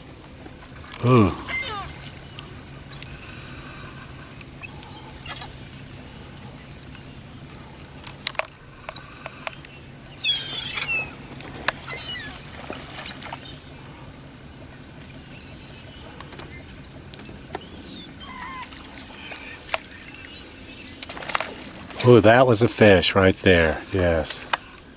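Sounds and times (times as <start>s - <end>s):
steady low hum: 0.0s - 24.9s
seagulls calling: 1.0s - 24.9s.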